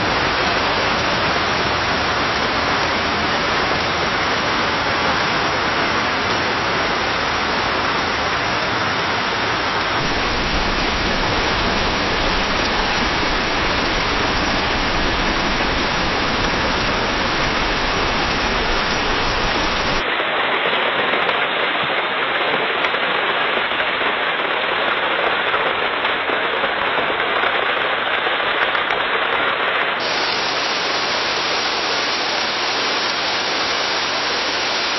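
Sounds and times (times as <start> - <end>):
rain pattering on leaves: 0.0 - 34.9.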